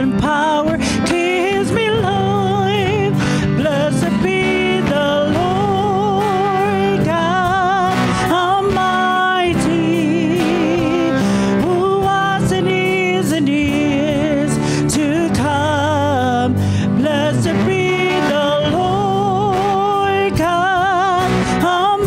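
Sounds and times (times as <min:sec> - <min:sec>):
band playing worship song: 0:00.0 - 0:22.0
person singing with vibrato: 0:00.0 - 0:22.0.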